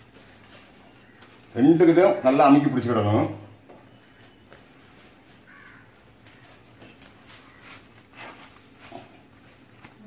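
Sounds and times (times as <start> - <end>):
plastic bottle and cloth rustling: 0.0 - 10.0.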